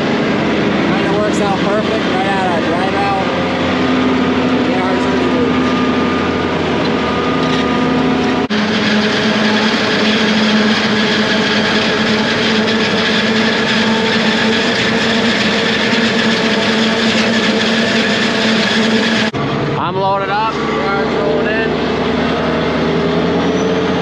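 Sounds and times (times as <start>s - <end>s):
forage harvester drone: 0.0s - 24.0s.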